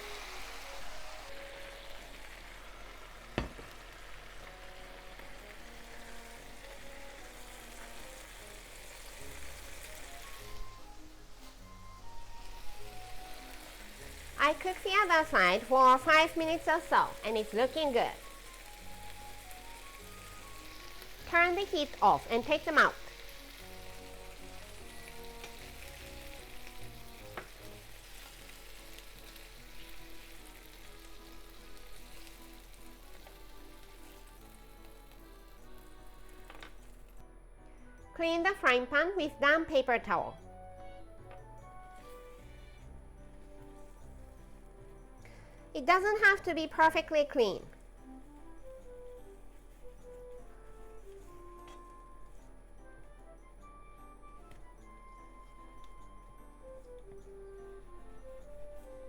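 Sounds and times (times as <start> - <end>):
chicken sizzling in a pan: 0.0 - 37.2, 41.7 - 52.4
light background music: 0.0 - 59.0.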